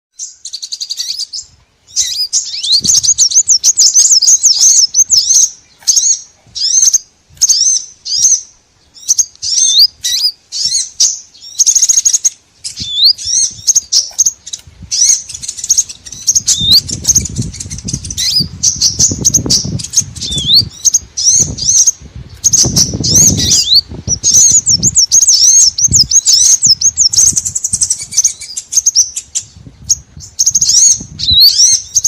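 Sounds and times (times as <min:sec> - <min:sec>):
small songbirds chirping: 0:00.1 - 0:32.0.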